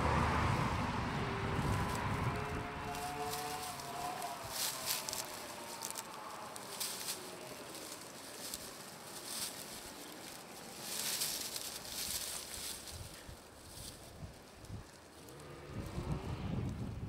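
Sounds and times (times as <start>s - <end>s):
dry bracken rustling and crackling: 0.2s - 17.0s.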